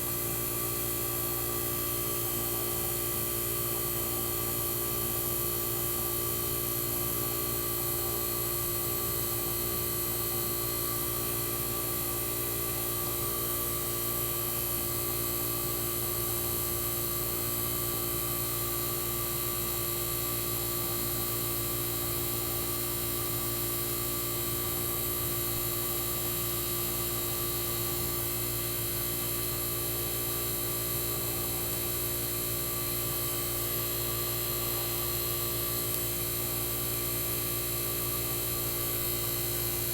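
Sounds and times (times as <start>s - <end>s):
air conditioner compressor humming: 0.0s - 39.9s.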